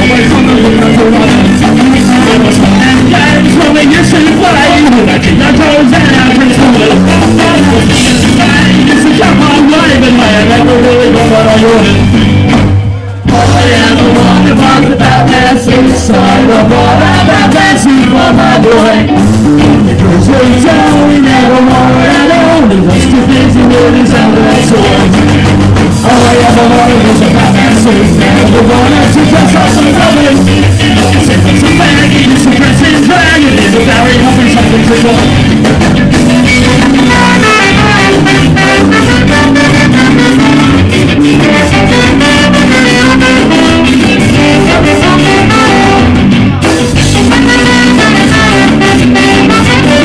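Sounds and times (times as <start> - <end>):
man singing: 0.0 - 12.3, 13.2 - 50.0
live ska band playing: 0.0 - 50.0.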